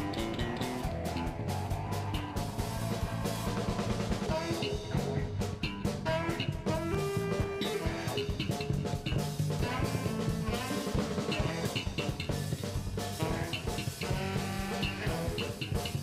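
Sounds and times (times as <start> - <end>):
drum kit beat: 0.0 - 16.0
electric guitar: 0.0 - 16.0
saxophone playing: 2.1 - 12.4, 13.0 - 16.0.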